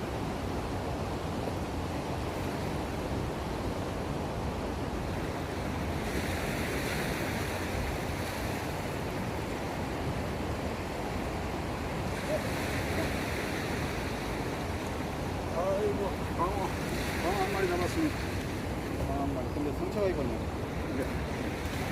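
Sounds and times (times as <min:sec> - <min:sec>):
sea water washing at shore: 0:00.0 - 0:21.9.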